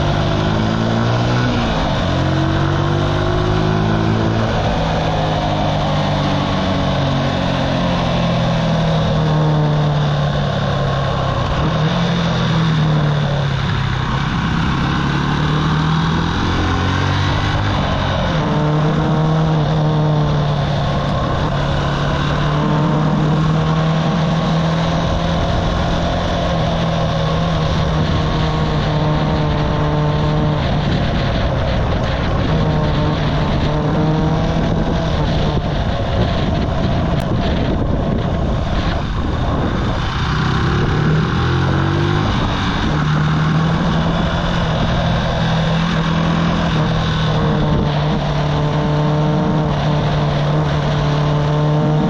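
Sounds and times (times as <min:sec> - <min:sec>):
small motorcycle engine buzzing: 0:00.0 - 0:52.0
wind and road noise: 0:00.0 - 0:52.0.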